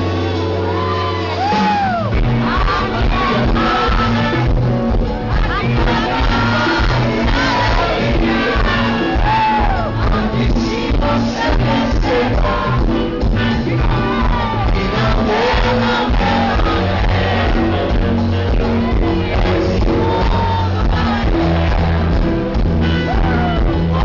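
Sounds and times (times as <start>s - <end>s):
crowd shouting and cheering: 0.0s - 24.0s
live band playing loudly: 0.0s - 24.0s
person singing: 0.0s - 24.0s.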